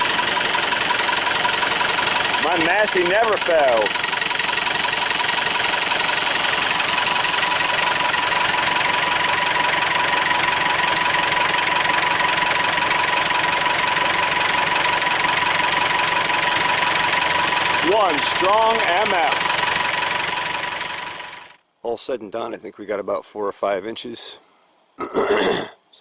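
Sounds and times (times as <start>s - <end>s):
tractor engine running: 0.0s - 21.6s.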